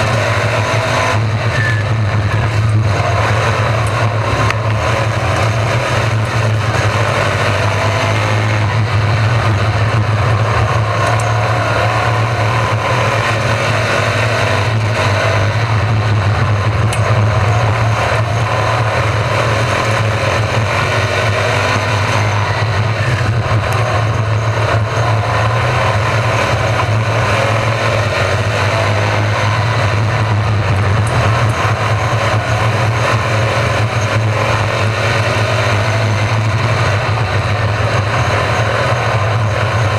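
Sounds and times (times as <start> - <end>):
sprint car engines passing: 0.0 - 39.9
steady low hum: 1.0 - 39.9.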